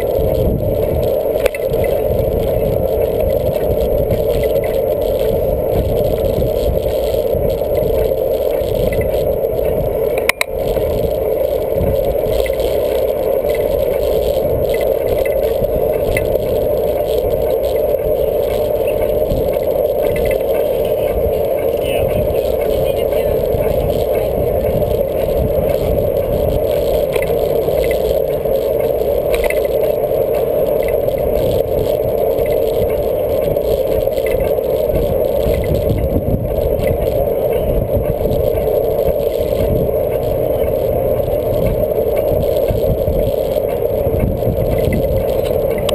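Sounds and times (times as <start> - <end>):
faint clicks and rattles: 0.0 - 45.9
road rumble: 0.0 - 45.9
wind noise on microphone: 0.0 - 45.9.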